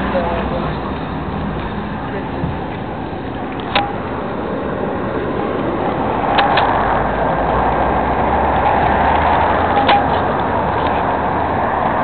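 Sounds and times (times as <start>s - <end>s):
road traffic rush: 0.0s - 12.0s.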